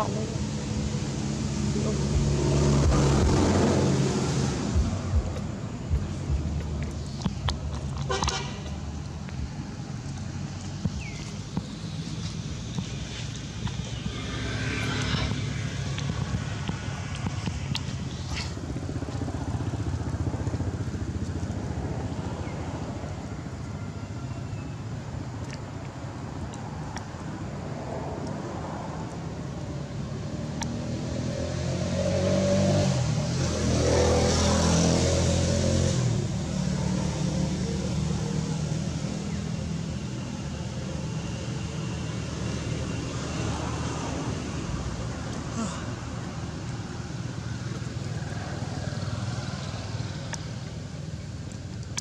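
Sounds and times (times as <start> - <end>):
vehicle passing: 0.0 - 24.0, 27.4 - 50.8
traffic engine rumble: 0.0 - 52.0.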